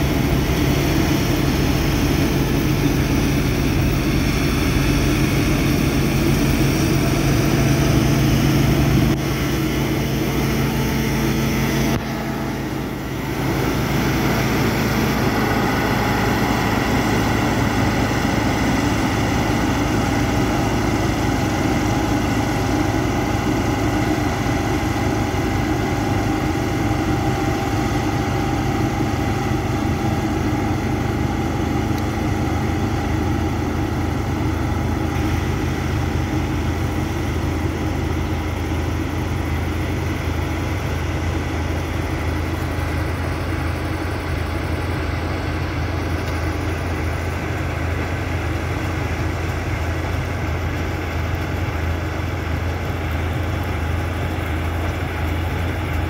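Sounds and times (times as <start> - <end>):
diesel engines humming: 0.0 - 56.0.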